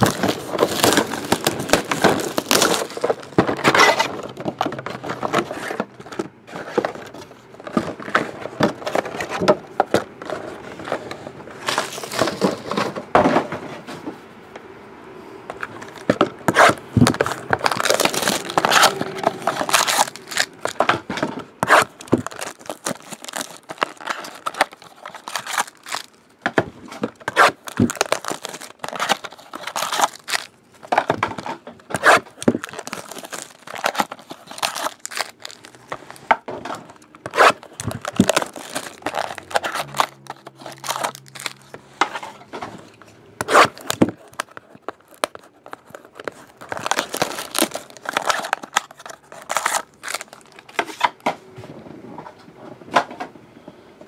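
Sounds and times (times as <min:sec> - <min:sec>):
plastic wrapping tearing and crinkling: 0:00.0 - 0:13.0, 0:15.6 - 0:51.2.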